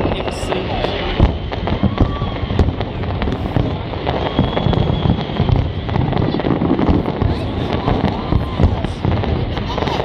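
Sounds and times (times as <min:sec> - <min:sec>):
fireworks bursting and crackling: 0:00.0 - 0:10.0.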